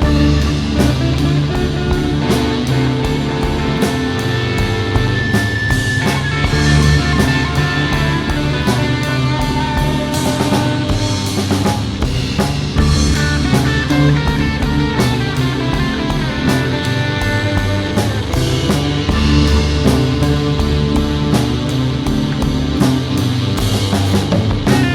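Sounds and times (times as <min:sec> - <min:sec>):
instrumental rock music: 0:00.0 - 0:24.9.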